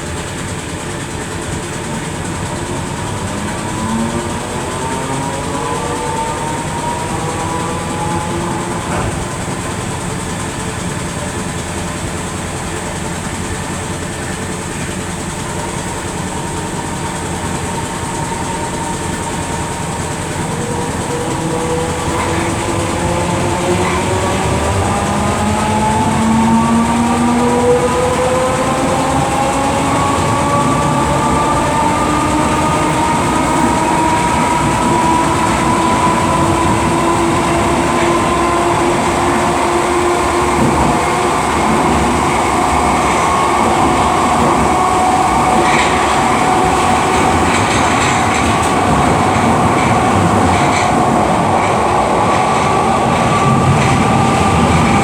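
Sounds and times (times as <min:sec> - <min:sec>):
train traction motor whine: 0:00.0 - 0:55.0
wheels rumbling on rail: 0:00.0 - 0:55.0.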